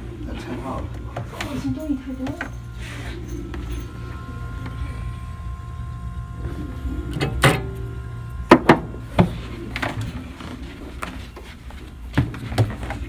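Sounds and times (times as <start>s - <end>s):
appliance humming: 0.0s - 13.0s.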